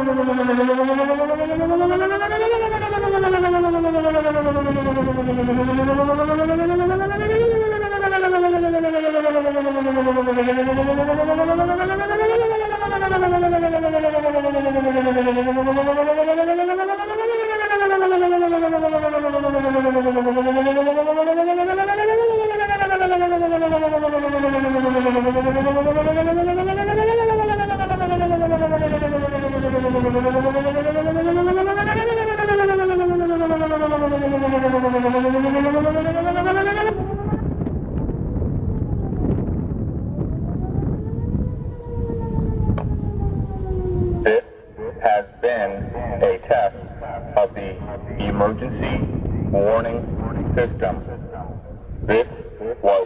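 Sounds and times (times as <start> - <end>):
warning siren wailing: 0.0 - 53.0.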